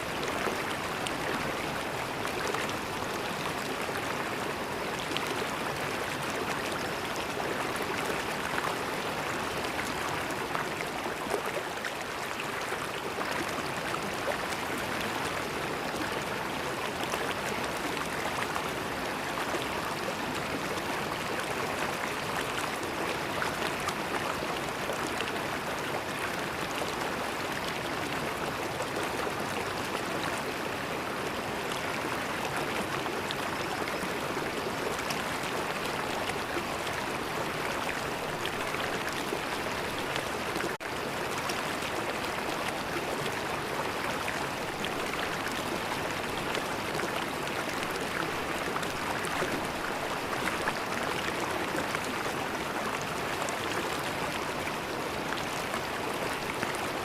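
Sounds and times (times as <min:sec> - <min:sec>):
shallow river flowing: 0:00.0 - 0:57.0.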